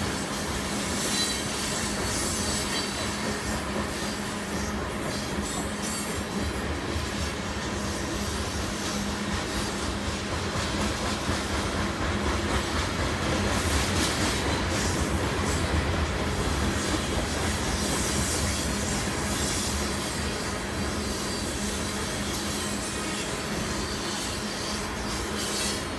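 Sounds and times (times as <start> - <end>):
train wheels on rails: 0.0 - 25.9.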